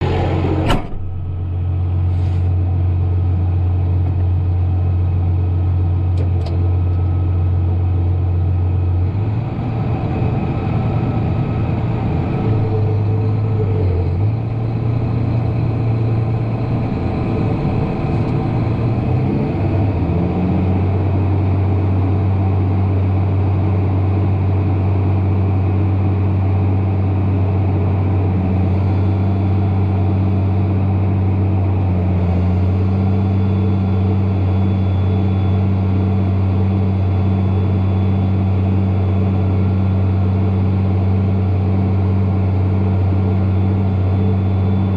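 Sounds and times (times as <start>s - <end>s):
tractor diesel engine droning: 0.0s - 44.9s.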